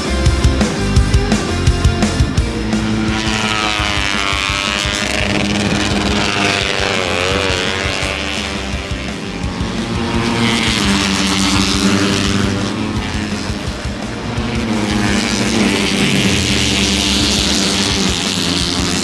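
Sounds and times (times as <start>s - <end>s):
music: 0.0s - 19.0s
racing motorcycles passing by: 0.0s - 19.0s.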